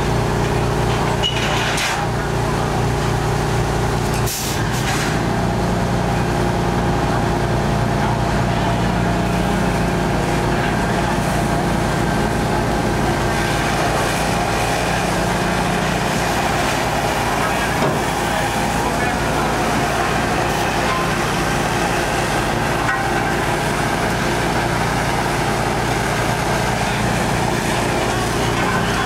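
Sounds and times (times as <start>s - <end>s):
diesel engine running at high revs: 0.0s - 29.0s.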